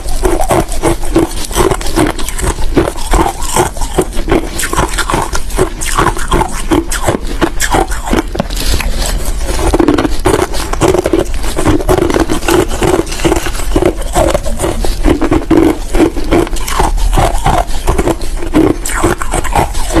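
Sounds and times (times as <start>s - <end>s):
crunching ice being chewed: 0.0s - 20.0s.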